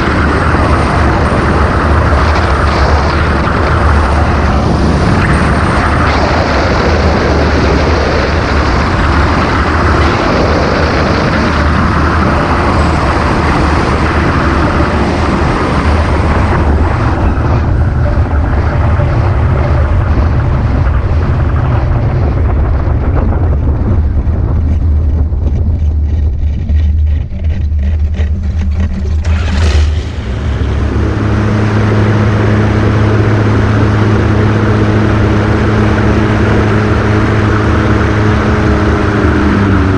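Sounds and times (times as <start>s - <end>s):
engine running steadily: 0.0s - 39.9s
wind rushing over microphone: 0.0s - 39.9s.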